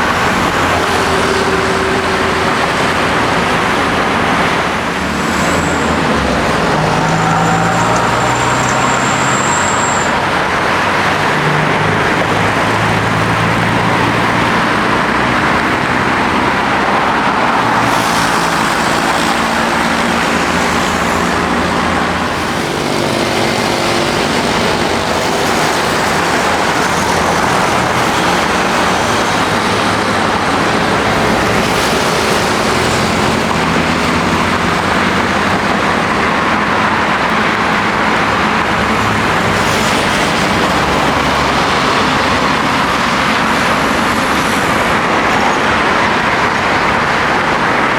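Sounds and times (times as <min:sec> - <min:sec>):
jet engines roaring: 0:00.0 - 0:47.9.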